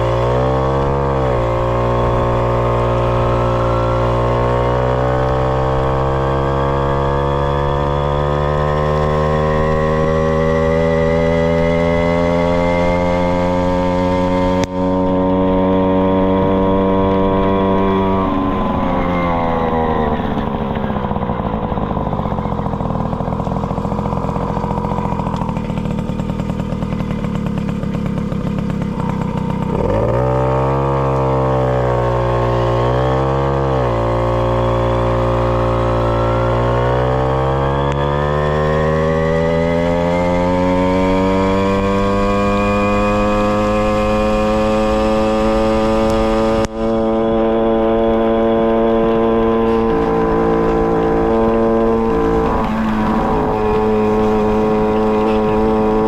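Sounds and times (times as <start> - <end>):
moped two-stroke engine running: 0.0 - 56.0.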